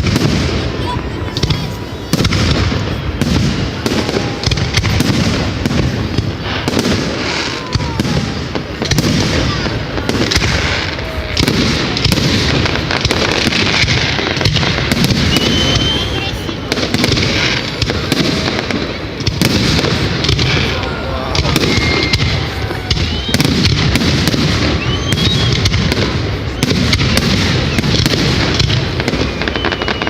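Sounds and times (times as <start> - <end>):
firework whistles: 0.0 - 30.0
fireworks crackling popping and banging: 0.0 - 30.0.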